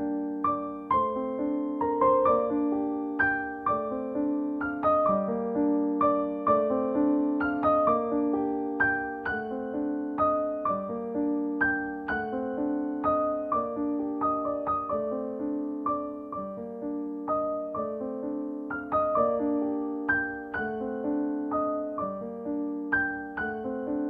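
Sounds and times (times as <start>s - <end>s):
gentle piano music: 0.0s - 24.0s.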